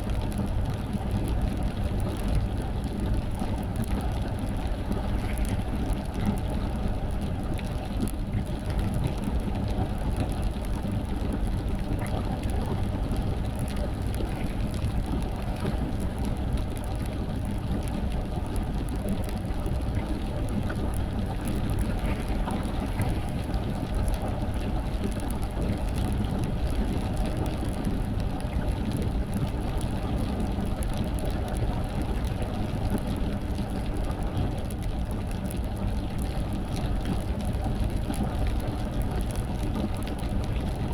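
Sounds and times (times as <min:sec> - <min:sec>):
rain: 0:00.0 - 0:40.9.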